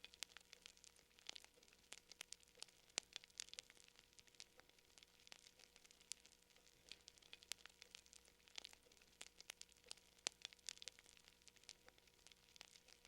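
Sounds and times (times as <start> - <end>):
soft hiss: 0.0 - 13.0
wood fire crackling and popping: 0.0 - 13.0.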